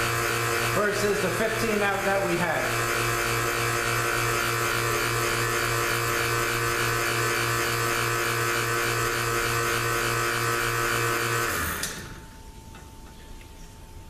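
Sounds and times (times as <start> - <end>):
electric vacuum pump running: 0.0 - 12.5.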